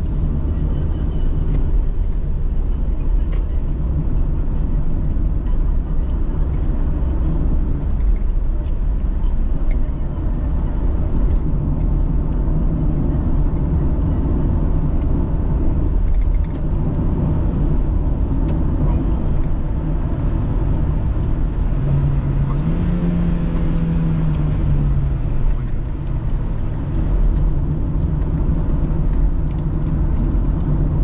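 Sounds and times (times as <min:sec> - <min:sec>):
car road noise from inside: 0:00.0 - 0:31.0.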